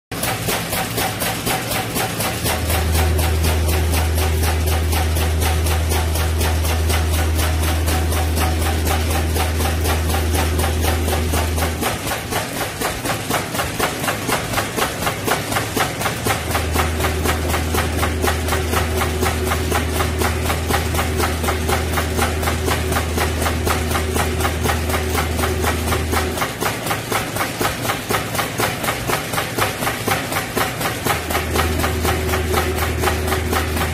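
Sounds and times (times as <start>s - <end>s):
low machine hum: 0.2s - 33.9s.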